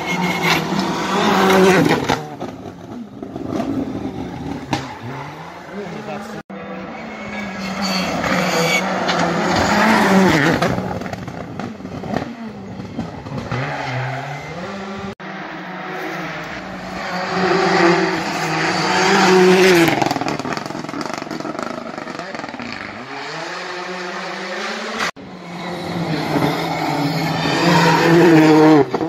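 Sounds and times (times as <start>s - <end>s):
rally cars passing at speed: 0.0s - 29.0s.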